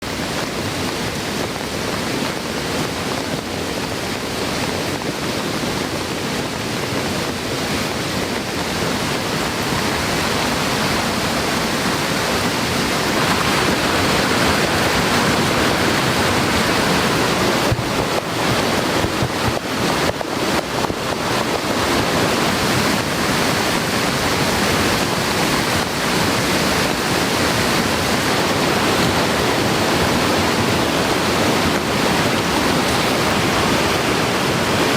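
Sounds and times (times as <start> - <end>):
heavy rain falling: 0.0 - 34.9
stream rushing water: 0.0 - 34.9.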